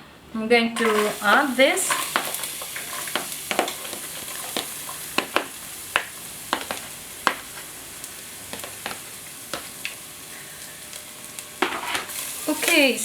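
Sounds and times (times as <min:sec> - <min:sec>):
garlic sizzling in oil: 0:00.8 - 0:13.0.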